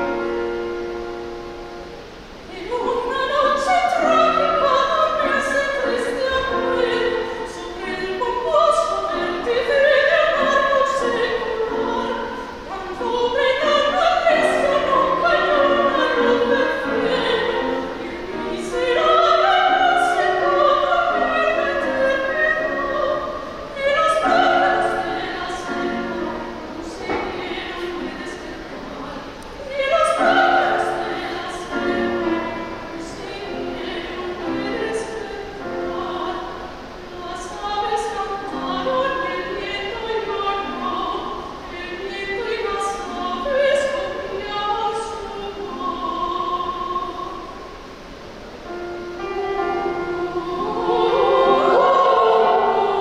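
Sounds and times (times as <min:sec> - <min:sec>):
grand piano accompaniment: 0:00.0 - 0:53.0
woman singing operatically: 0:02.1 - 0:47.7, 0:48.8 - 0:53.0.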